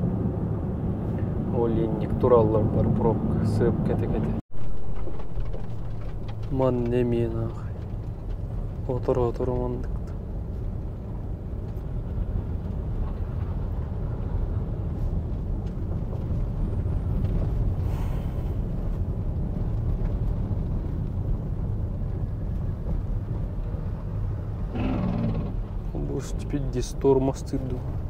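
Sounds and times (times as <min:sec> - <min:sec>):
vehicle road and engine rumble: 0:00.0 - 0:28.0.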